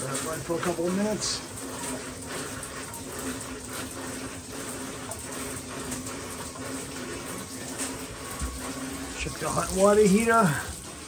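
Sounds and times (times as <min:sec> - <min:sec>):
shower running into a tub: 0:00.0 - 0:11.0.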